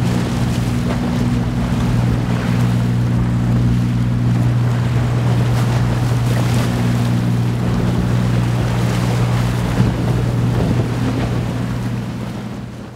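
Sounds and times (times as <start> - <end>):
ship engine drone: 0.0 - 12.9
waves washing: 0.0 - 12.9
wind on microphone: 0.0 - 12.9.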